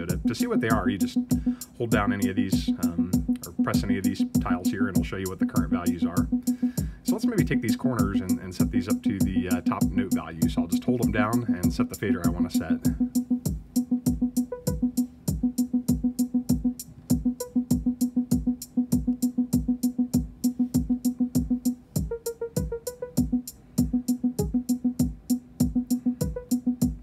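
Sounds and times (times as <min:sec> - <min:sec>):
hi-hat ticks: 0:00.0 - 0:27.0
rapidly repeated synth note: 0:00.0 - 0:27.0
kick drum: 0:00.1 - 0:27.0.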